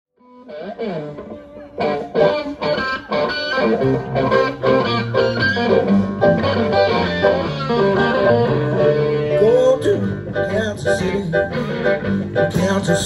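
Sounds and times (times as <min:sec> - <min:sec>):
rock and roll band music: 0:00.2 - 0:13.0.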